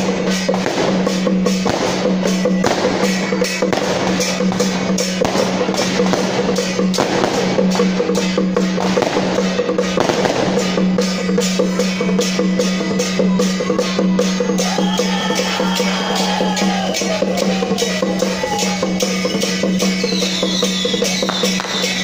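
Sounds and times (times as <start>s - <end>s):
sharp cymbal-like crashes: 0.0s - 20.0s
hand gongs and drums beating: 0.0s - 22.0s.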